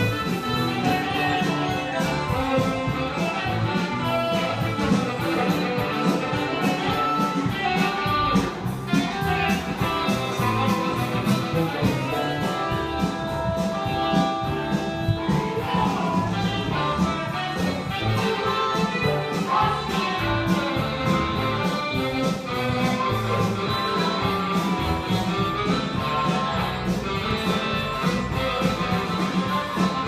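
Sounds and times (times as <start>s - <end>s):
instrumental music with plucked guitar: 0.0s - 30.0s.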